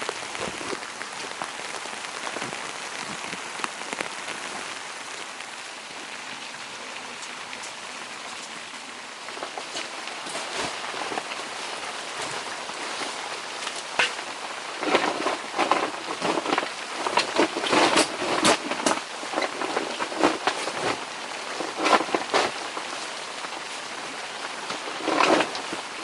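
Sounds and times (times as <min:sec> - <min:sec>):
wind buffeting tent fabric: 0:00.0 - 0:06.0, 0:08.4 - 0:26.0.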